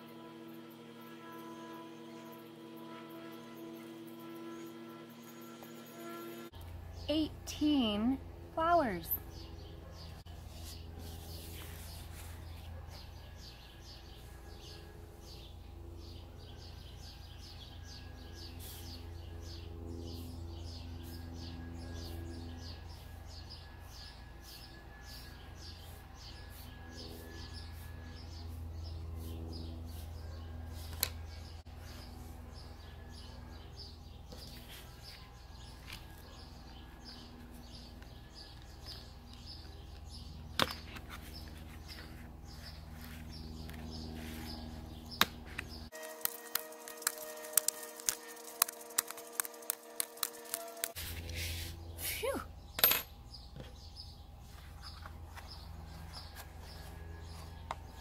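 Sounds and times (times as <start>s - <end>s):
low outdoor hum: 0.0s - 58.0s
birds chirping: 6.6s - 58.0s.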